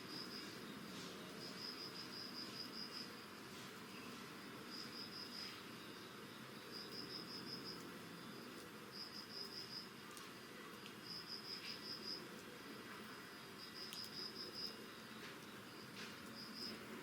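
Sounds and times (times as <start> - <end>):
crickets chirping: 0.0 - 17.0
faint steady insect trill: 0.0 - 17.0.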